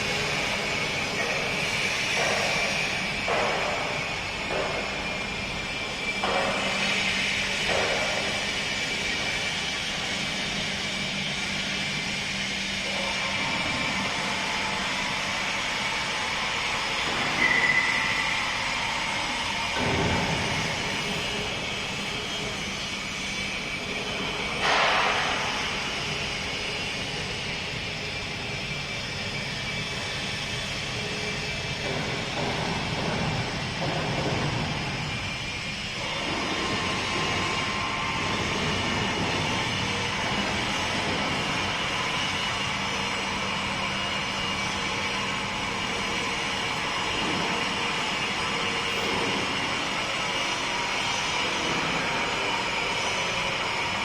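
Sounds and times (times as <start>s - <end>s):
high machine whine: 0.0s - 54.0s
industrial machinery running: 0.0s - 54.0s.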